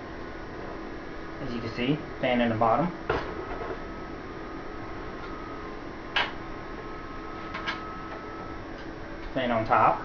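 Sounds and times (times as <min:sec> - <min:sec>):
computer fans whirring: 0:00.0 - 0:10.0.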